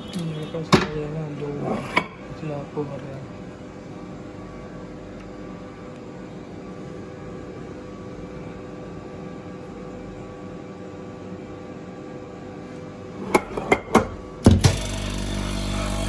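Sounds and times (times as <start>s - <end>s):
machine hum with tones: 0.0s - 16.0s.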